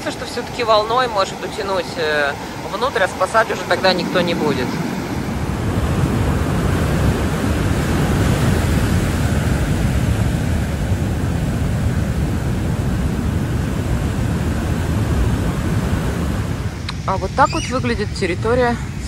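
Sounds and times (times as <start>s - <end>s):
heavy surf breaking: 0.0s - 19.0s
wind rumbling on microphone: 0.0s - 19.0s.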